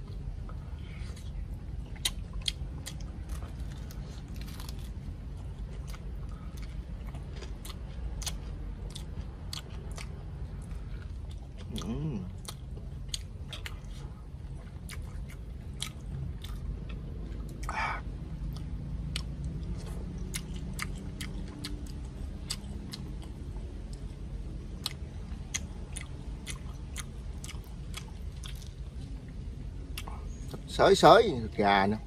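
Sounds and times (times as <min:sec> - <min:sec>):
crunchy chewing: 0:00.0 - 0:30.7.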